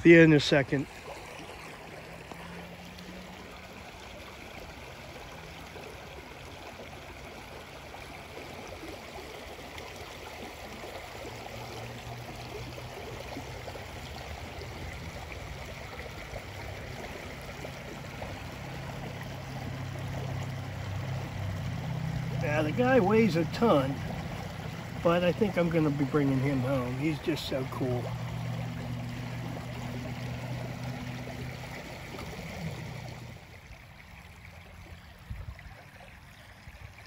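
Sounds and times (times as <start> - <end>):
creek water over rocks: 0.0 - 37.0.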